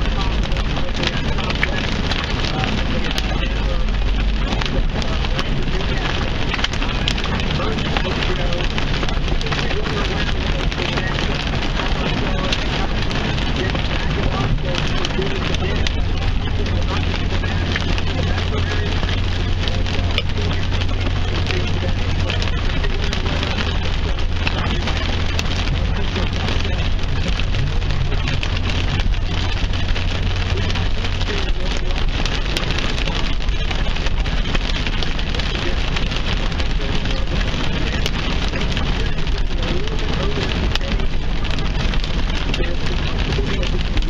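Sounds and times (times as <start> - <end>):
heavy rain on car roof: 0.0 - 44.0.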